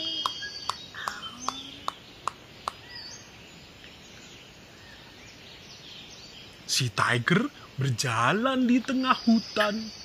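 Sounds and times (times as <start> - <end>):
bird-like chirps: 0.0 - 10.0.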